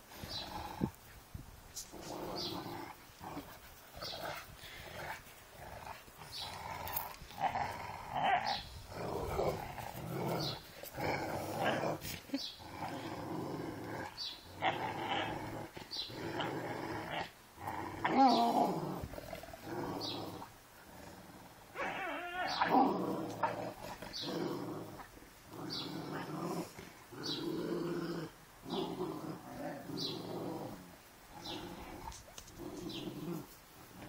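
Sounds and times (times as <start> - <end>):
dogs growling in play: 0.0 - 34.0.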